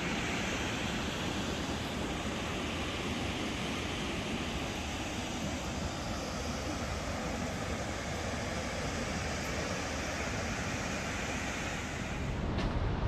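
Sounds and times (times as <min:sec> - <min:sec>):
water rushing roar: 0:00.0 - 0:13.0.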